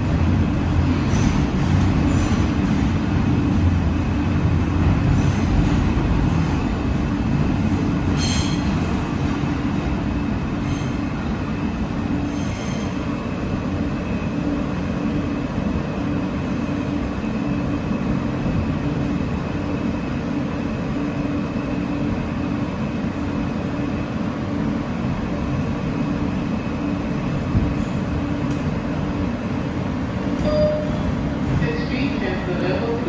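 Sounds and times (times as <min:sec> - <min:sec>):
subway car wheels rumbling on rail: 0:00.0 - 0:33.0.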